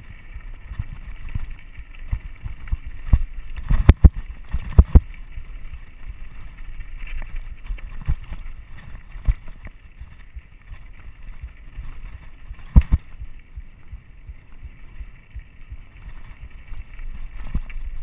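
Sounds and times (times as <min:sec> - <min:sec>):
bike tyres rumbling on gravel: 0:00.0 - 0:18.0
wheels knocking on stones: 0:00.0 - 0:18.0.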